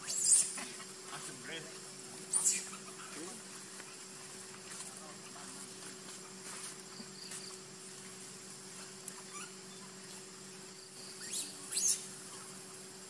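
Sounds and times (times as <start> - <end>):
outdoor background hum and hiss: 0.0 - 13.0.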